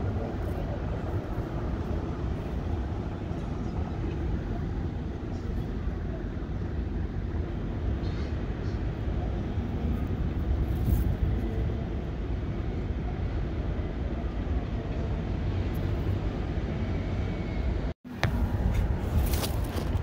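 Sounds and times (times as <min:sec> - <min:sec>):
road and tyre noise: 0:00.0 - 0:20.0.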